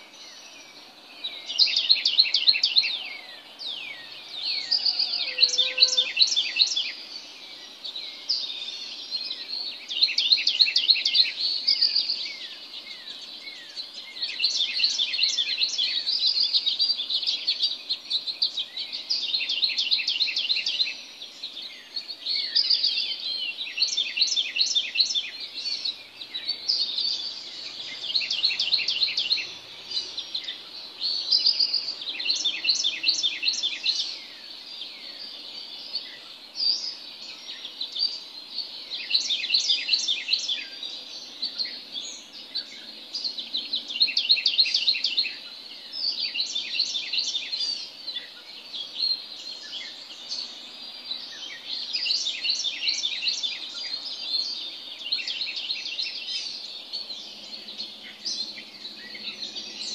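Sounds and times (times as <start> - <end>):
faint background noise: 0.0 - 59.9
songbirds singing: 0.0 - 59.9.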